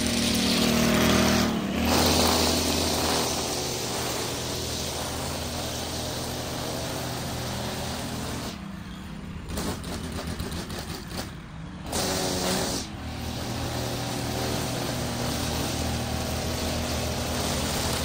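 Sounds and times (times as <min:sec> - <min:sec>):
string trimmer engine revving: 0:00.0 - 0:08.7, 0:09.5 - 0:18.0.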